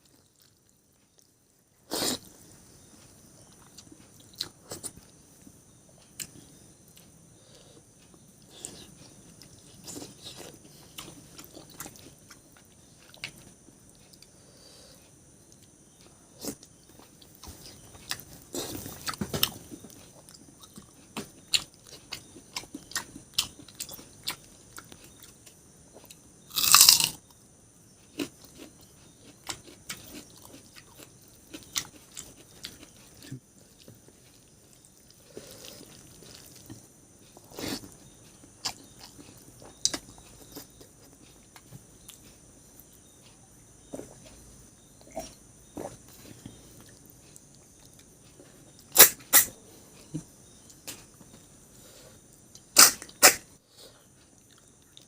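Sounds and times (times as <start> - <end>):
person chewing and crunching food: 0.0 - 14.4, 15.0 - 53.4, 54.1 - 55.0.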